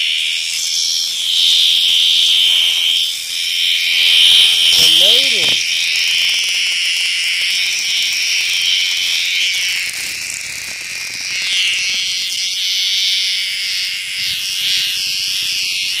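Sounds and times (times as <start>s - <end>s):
cicadas buzzing: 0.0s - 16.0s.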